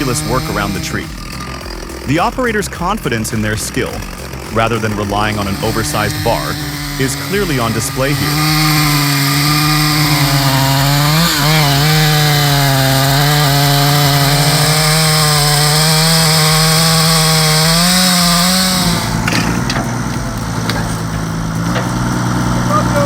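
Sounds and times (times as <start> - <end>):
sharp knocks: 0.0 - 22.6
chainsaw cutting tree trunk: 0.0 - 23.0.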